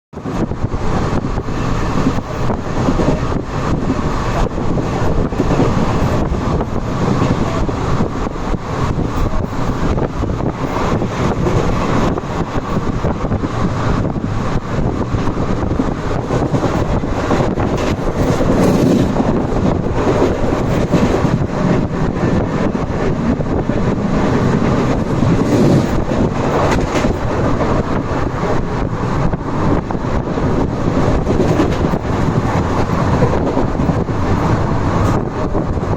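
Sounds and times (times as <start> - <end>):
train rumbling at speed: 0.1 - 35.9
wind buffeting microphone: 0.1 - 35.9.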